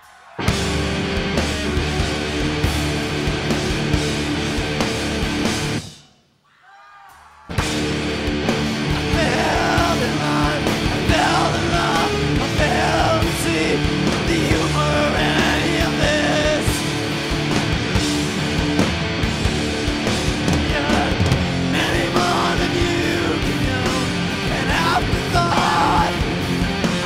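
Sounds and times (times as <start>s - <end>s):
rock band playing loud: 0.0s - 6.0s, 7.5s - 27.0s.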